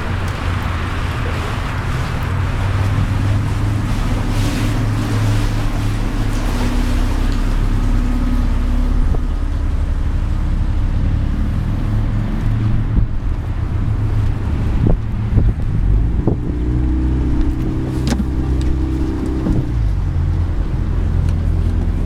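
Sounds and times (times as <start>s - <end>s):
boat engine humming: 0.0s - 22.0s
water rushing: 0.0s - 22.0s
wind over hull: 0.0s - 22.0s.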